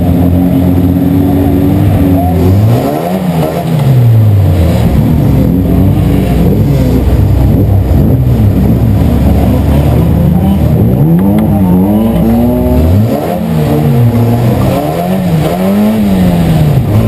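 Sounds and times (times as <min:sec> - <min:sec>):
racing car engine running: 0:00.0 - 0:17.0.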